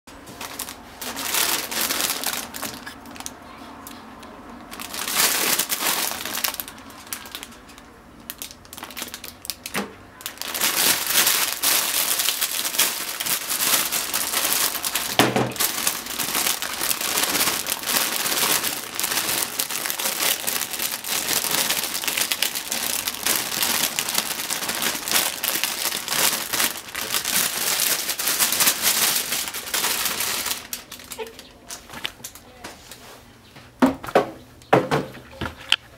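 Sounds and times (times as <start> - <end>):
plastic bag crinkling: 0.1 - 3.5, 4.4 - 32.4.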